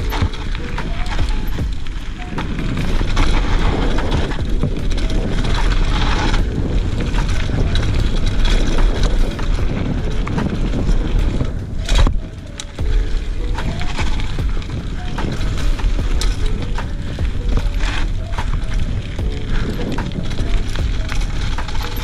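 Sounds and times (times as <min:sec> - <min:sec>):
bike rattling over rough trail: 0:00.0 - 0:22.0
bike tyre rumble: 0:00.0 - 0:22.0
wind buffeting microphone: 0:00.0 - 0:22.0.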